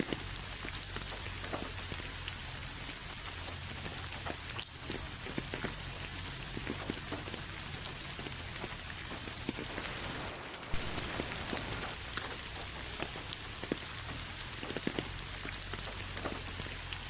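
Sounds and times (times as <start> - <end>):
raindrops ticking close by: 0.0 - 17.0
steady rain falling: 0.0 - 17.0.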